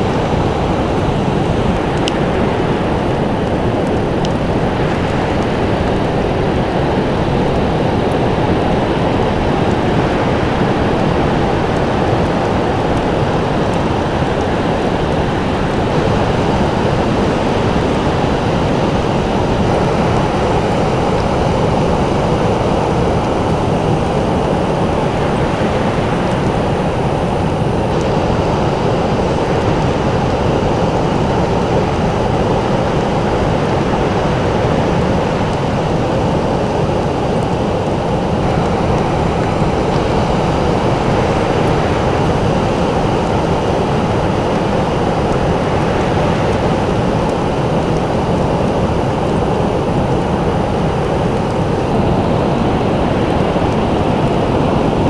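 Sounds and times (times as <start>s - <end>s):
waves breaking: 0.0s - 55.0s.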